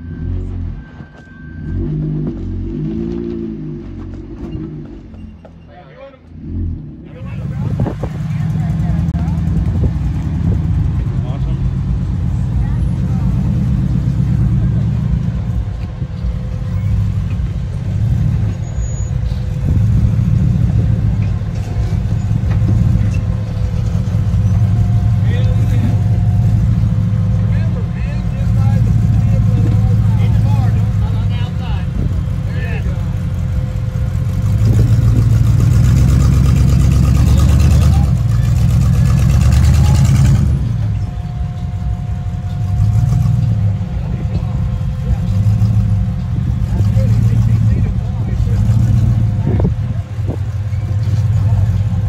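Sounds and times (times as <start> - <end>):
engine running at low revs: 0.0 - 52.0.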